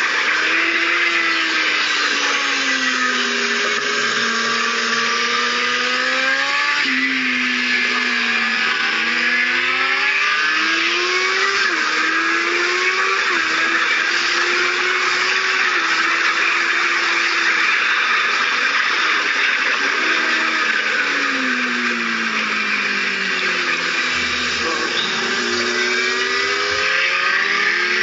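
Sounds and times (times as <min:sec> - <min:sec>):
motorcycle engine: 0:00.0 - 0:28.0.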